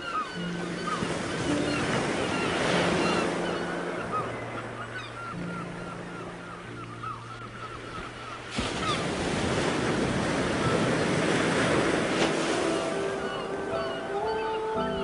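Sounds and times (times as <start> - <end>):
wave breaking: 0.8 - 15.0.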